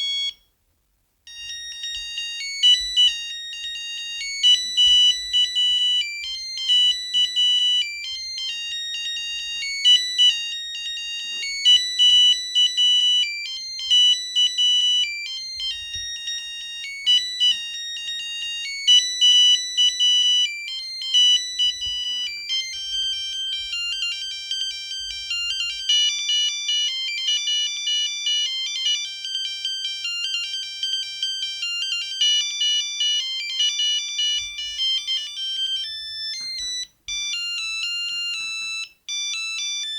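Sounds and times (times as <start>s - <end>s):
phone ringtone beeping melody: 0.0s - 0.4s, 1.3s - 39.9s.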